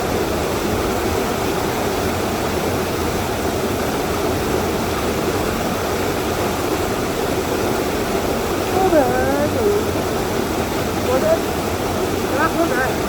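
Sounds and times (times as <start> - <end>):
waterfall crashing into pool: 0.0 - 13.0.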